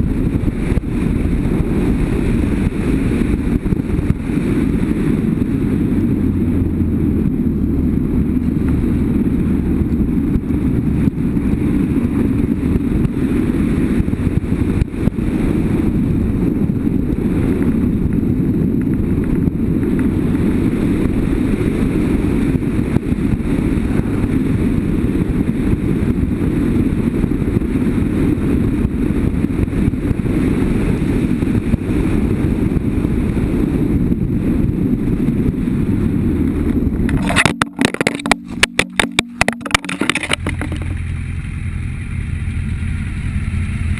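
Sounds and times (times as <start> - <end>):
motorcycle engine running: 0.0 - 43.9
wind rumble on microphone: 0.0 - 43.9.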